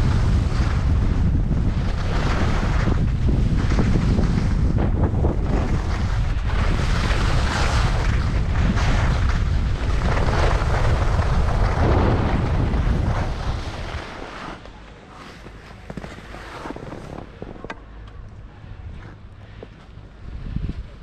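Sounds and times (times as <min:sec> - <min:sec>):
wind buffeting microphone: 0:00.0 - 0:14.8, 0:16.6 - 0:21.0
skis scraping on snow: 0:00.0 - 0:17.7.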